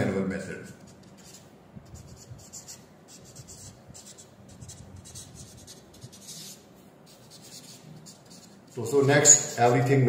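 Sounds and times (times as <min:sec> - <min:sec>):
marker pen scratching on paper: 0:00.6 - 0:10.0.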